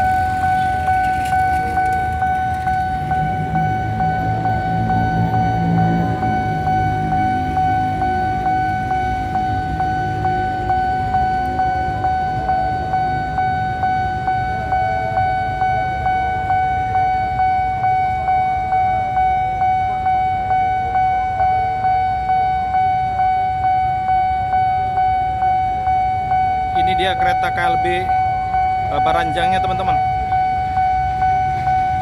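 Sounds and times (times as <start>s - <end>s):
level crossing bell ringing: 0.0s - 32.0s.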